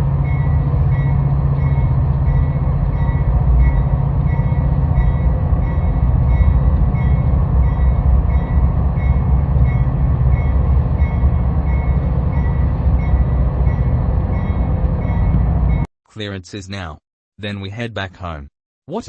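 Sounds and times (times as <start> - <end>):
train rumbling by: 0.0 - 15.9.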